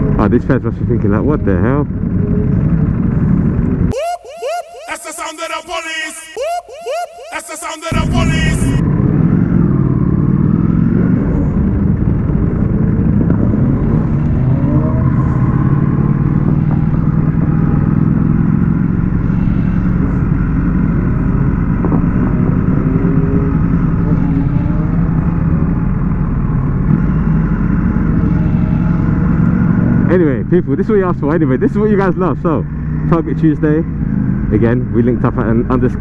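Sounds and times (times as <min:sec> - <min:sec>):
motorbike engines revving: 0:00.0 - 0:04.0, 0:06.9 - 0:36.0.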